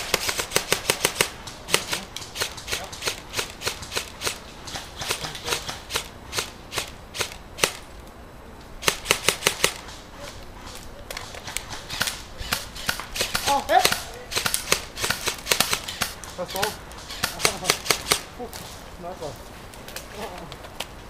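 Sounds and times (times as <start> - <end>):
airsoft rifle shots: 0.0 - 7.9, 8.8 - 18.4.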